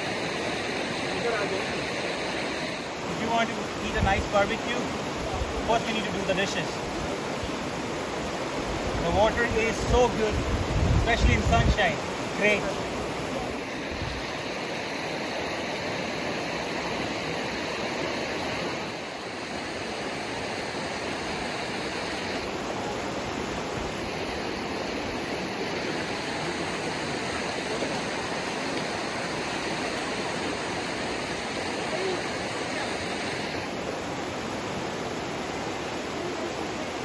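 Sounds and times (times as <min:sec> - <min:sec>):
stream flowing over stones: 0:00.0 - 0:37.0.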